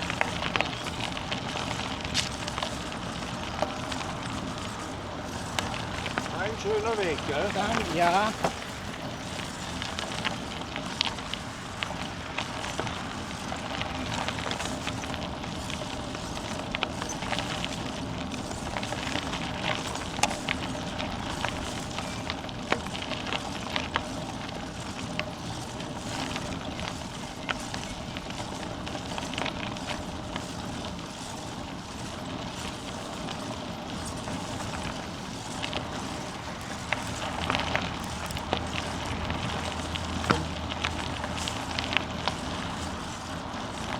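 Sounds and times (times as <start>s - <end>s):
bicycle clicks and rattles: 0.0s - 43.9s
bicycle tyres rolling: 0.0s - 43.9s.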